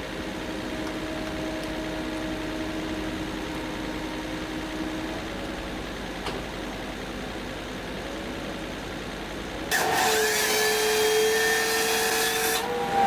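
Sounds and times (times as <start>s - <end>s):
engine humming: 0.0s - 11.8s.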